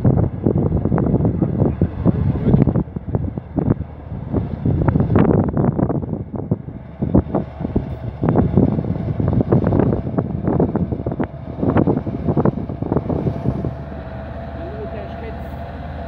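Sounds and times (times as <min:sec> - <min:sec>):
tractor diesel engine: 0:00.0 - 0:16.0
wind buffeting microphone: 0:00.0 - 0:16.0.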